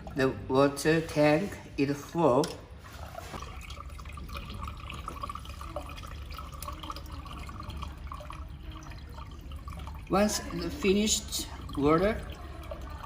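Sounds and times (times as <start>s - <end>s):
water trickling into a tank: 0.0s - 13.0s.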